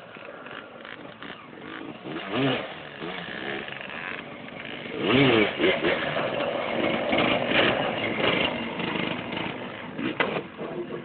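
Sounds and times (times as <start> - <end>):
quad bike engine revving: 0.0 - 11.0.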